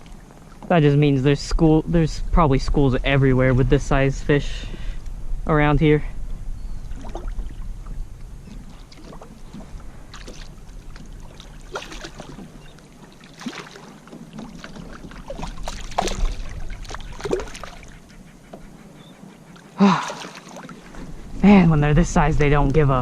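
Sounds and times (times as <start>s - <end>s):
water splashing around kayak: 0.0s - 3.2s, 6.2s - 21.5s.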